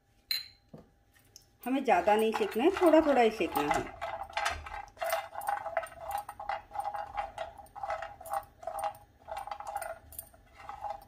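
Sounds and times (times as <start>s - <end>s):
nuts rattling in a pan: 1.6s - 11.0s
spatula scraping a frying pan: 2.0s - 11.0s.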